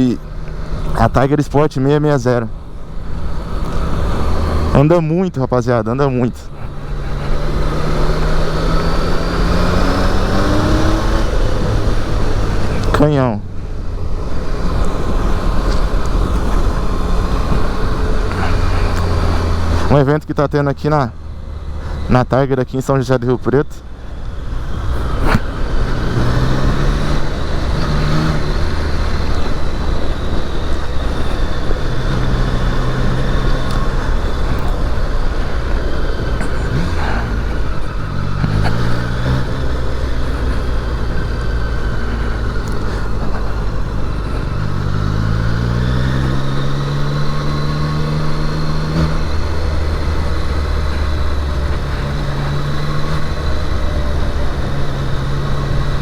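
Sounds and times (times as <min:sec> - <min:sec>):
motorcycle engine accelerating: 0:00.0 - 0:56.0
steady rushing noise: 0:00.0 - 0:56.0.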